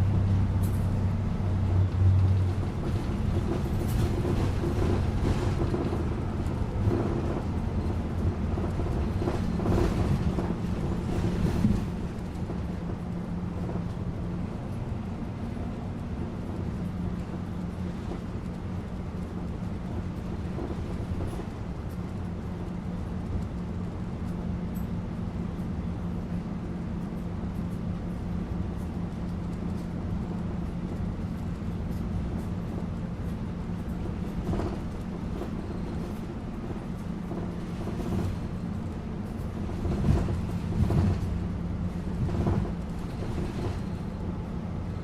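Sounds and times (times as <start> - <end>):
bus engine hum: 0.0 - 45.0
road noise: 0.0 - 45.0.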